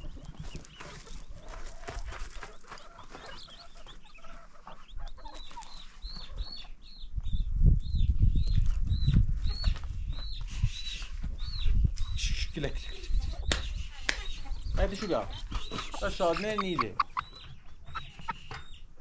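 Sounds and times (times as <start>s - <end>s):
chickens clucking: 0.0s - 6.8s, 8.6s - 19.0s.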